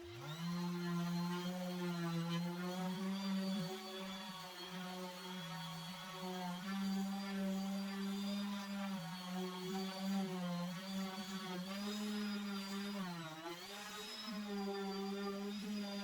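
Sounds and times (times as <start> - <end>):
electric power tool motor humming: 0.0 - 16.0.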